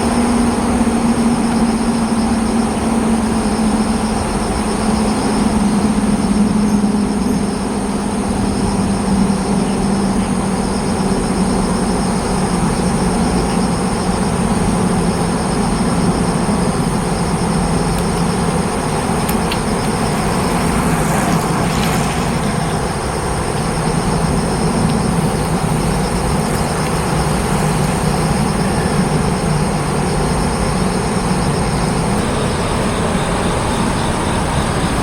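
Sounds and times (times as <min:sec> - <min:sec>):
outdoor background rumble: 0:00.0 - 0:35.0
thin high whine: 0:00.0 - 0:35.0.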